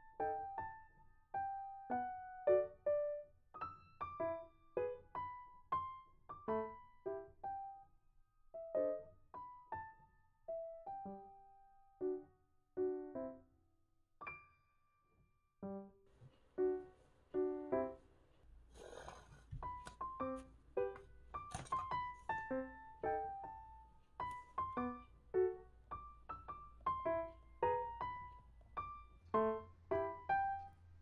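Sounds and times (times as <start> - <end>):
gentle solo piano melody: 0.0 - 7.9, 8.5 - 13.5, 14.2 - 15.0, 15.6 - 18.1, 18.8 - 31.0.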